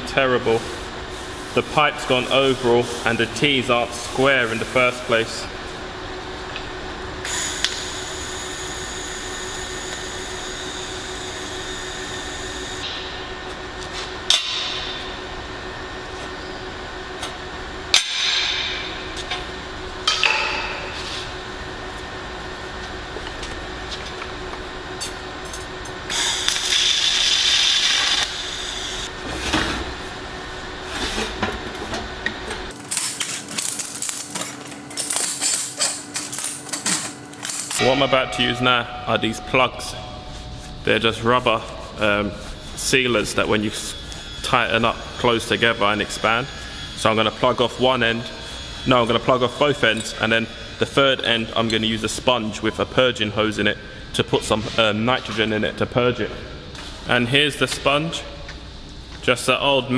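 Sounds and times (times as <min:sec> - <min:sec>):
workshop hum: 0:00.0 - 0:59.9.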